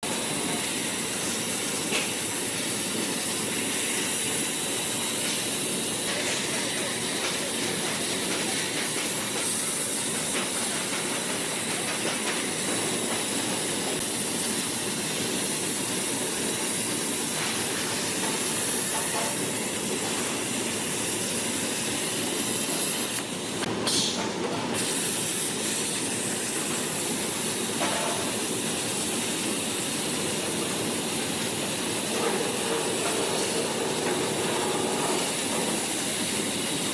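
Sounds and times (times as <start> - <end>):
plasma cutter hissing: 0.0 - 36.9.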